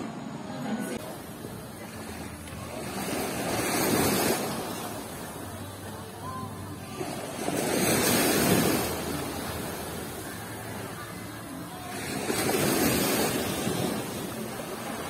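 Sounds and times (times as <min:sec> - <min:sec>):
waves washing on a beach: 0:00.9 - 0:15.0.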